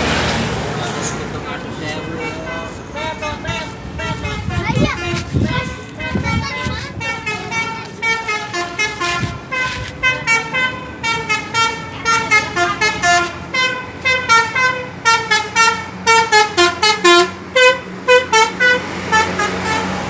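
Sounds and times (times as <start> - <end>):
low engine hum: 0.0 - 20.0
air horn playing melody: 2.1 - 20.0.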